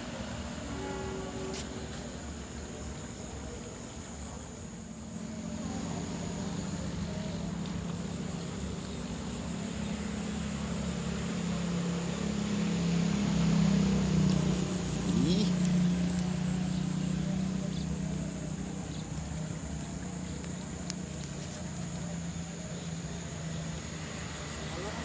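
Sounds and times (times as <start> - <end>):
motorbikes passing: 0.0 - 25.0
faint insect chirring: 0.1 - 25.0.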